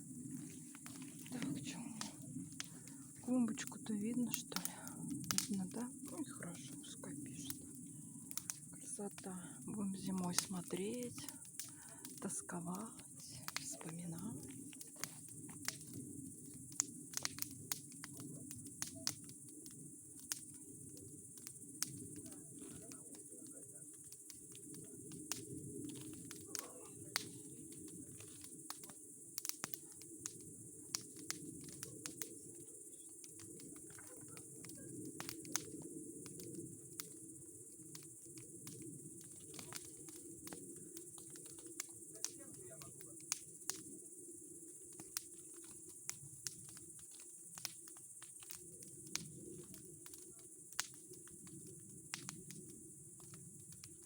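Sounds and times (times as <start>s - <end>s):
bonfire crackling and popping: 0.0s - 54.0s
low rush of flames: 0.0s - 54.0s.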